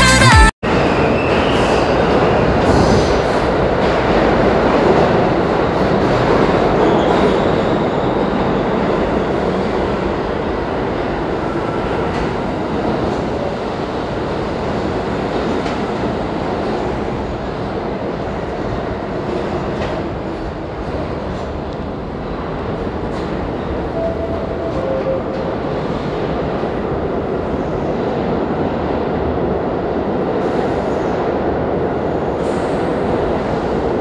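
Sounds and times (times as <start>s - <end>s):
subway train wheels rumbling: 0.6s - 34.0s.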